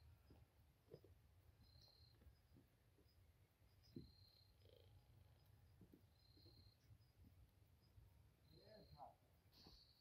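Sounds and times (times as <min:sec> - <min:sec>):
faint high chirp: 0:00.0 - 0:10.0.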